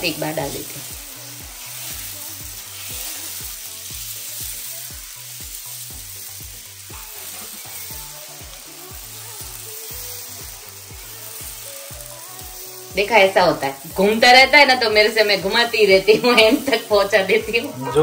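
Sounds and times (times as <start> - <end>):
batter sizzling on a pan: 0.0 - 18.0
soft background music with beat: 0.0 - 18.0.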